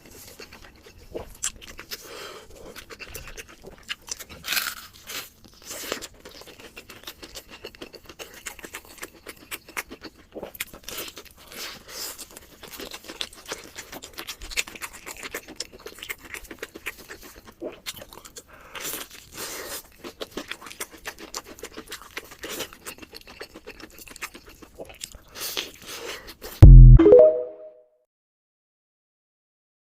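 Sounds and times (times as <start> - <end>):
chewing crunchy food: 0.0 - 26.6.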